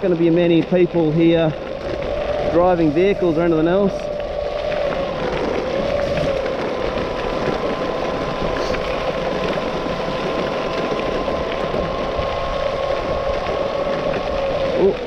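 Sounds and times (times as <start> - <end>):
electric motors whining: 0.0 - 15.0
wheels rumbling on gravel: 0.0 - 15.0.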